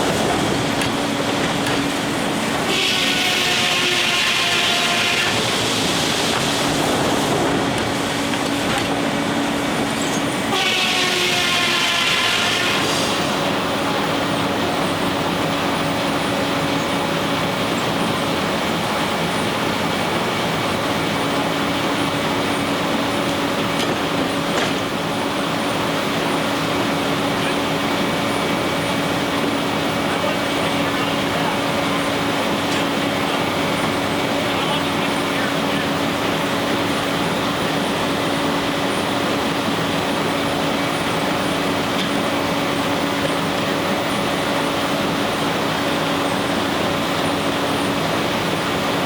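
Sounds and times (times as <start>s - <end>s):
sawmill mechanical hum: 0.0s - 49.0s.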